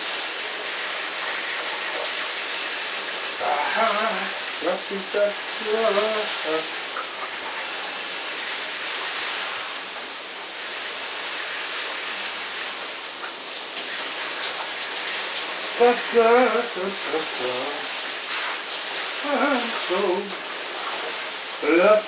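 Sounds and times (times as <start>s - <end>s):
shower spray running: 0.0s - 22.0s.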